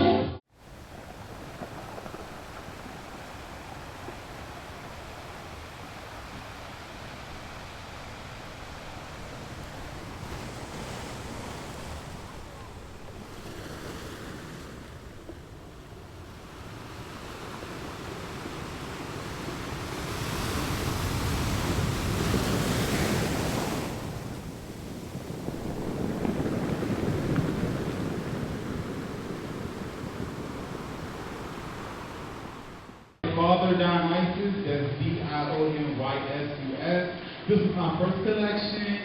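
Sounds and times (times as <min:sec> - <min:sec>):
ocean waves surf: 0:00.0 - 0:33.2.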